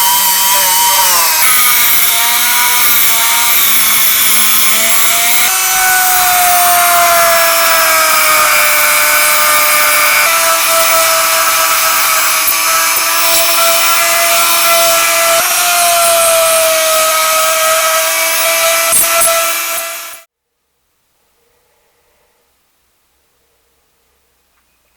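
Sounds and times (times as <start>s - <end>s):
grinding hiss: 0.0s - 20.3s
power tool motor whine: 0.0s - 20.3s.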